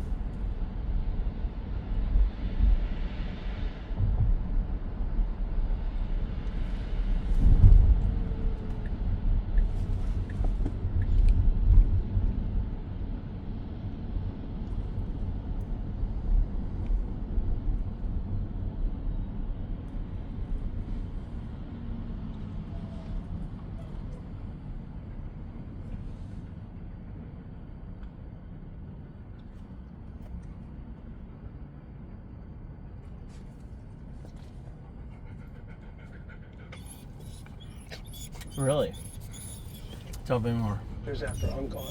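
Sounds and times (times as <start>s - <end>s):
road and tyre noise in car: 0.0s - 41.9s.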